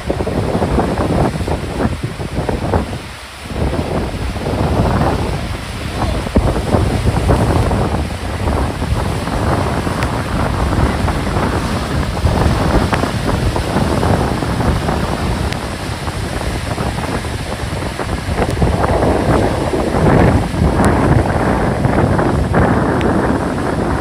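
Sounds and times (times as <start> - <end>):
sea waves breaking on shore: 0.0 - 24.0
strong wind buffeting microphone: 0.0 - 24.0.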